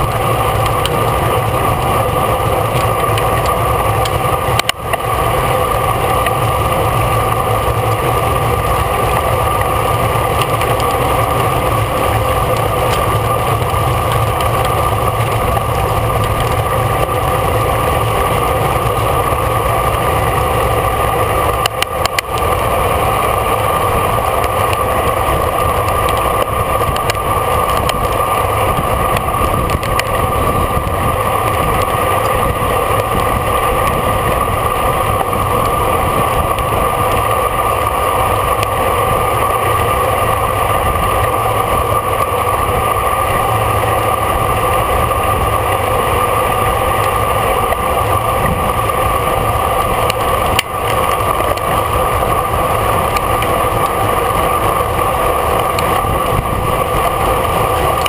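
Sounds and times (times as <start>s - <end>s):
constant hum: 0.0s - 58.0s
wind and road rush: 0.0s - 58.0s.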